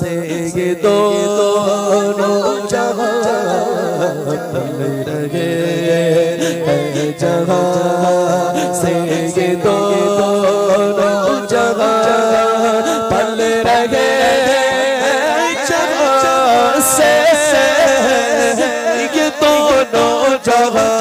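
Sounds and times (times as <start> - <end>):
man singing devotional song: 0.0 - 21.0.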